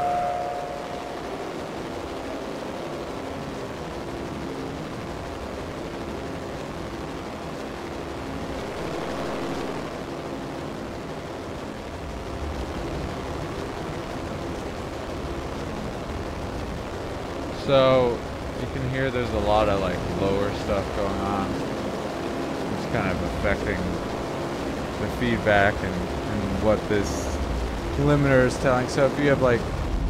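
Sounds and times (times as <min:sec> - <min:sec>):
faint steady tones: 0:00.0 - 0:30.0
low rumble: 0:00.0 - 0:30.0
noisy feedback drone: 0:00.0 - 0:30.0.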